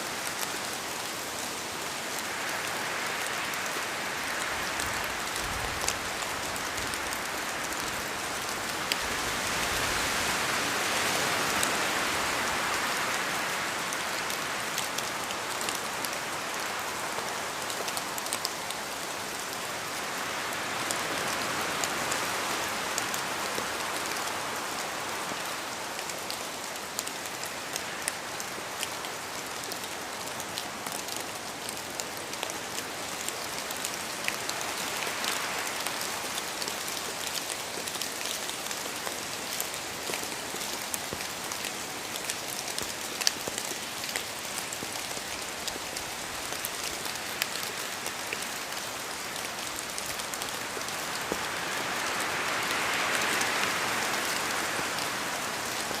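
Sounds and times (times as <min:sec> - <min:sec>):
rain falling in a forest: 0:00.0 - 0:56.0
wind through trees: 0:00.0 - 0:56.0.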